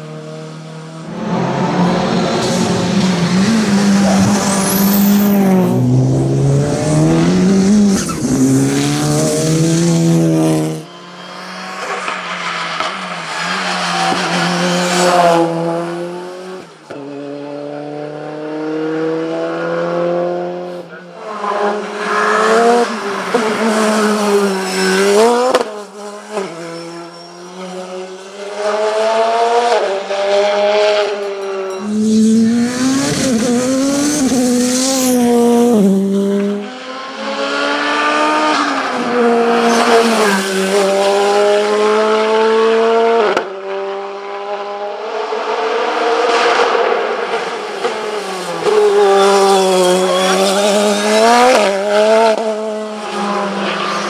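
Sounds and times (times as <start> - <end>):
race car engines accelerating: 0.0 - 54.0.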